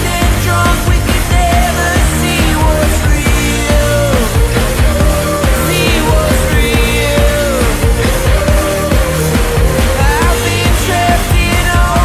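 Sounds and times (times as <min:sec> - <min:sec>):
drum beat: 0:00.0 - 0:12.0
rock-pop song: 0:00.0 - 0:12.0
sliding melody line: 0:00.0 - 0:12.0.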